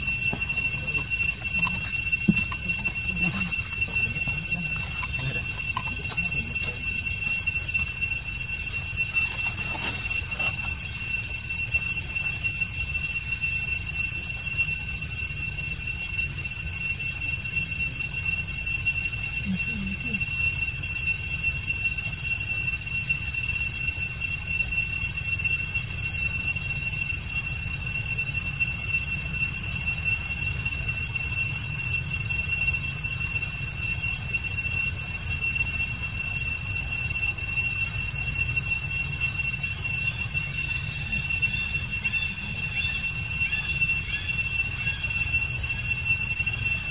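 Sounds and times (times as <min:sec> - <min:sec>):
high-pitched insect drone: 0:00.0 - 0:46.9.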